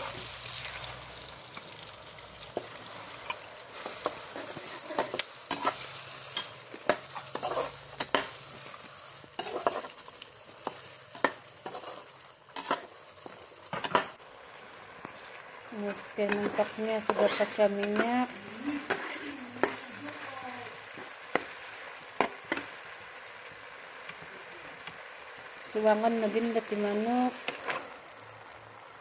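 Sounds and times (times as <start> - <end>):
paste sizzling in hot oil: 0.0 - 29.0
spatula scraping wok: 2.5 - 28.1.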